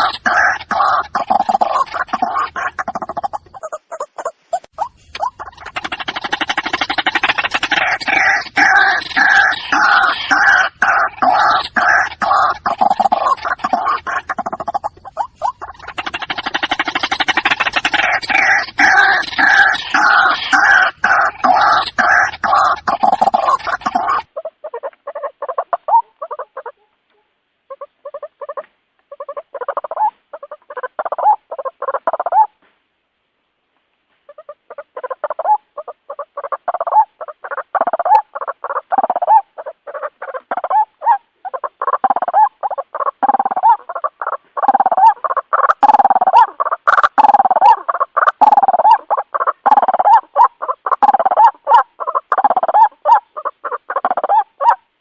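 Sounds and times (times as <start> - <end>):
waterhen calling repeated notes: 0.0 - 32.6, 34.3 - 55.0.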